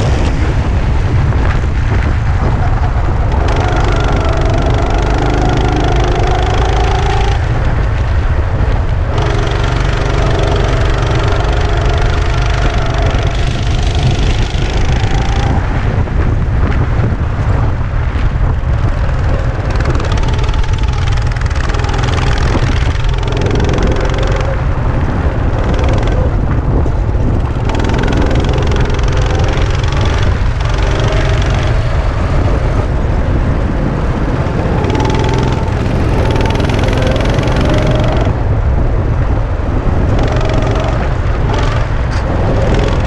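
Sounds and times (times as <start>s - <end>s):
wind rumble on microphone: 0.0s - 43.0s
go-kart engine revving: 2.6s - 16.1s, 18.6s - 38.5s, 39.9s - 43.0s.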